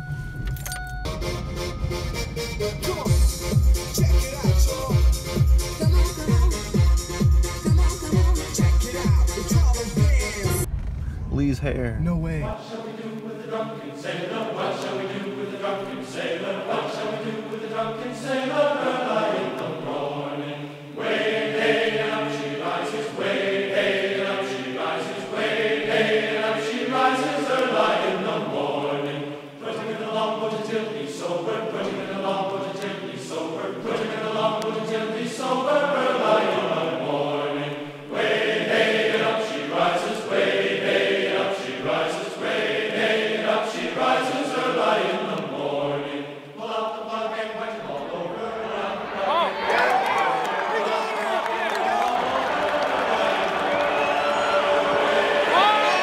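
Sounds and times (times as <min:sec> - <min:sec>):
choir singing held chords: 0:01.0 - 0:10.7, 0:12.6 - 0:56.0.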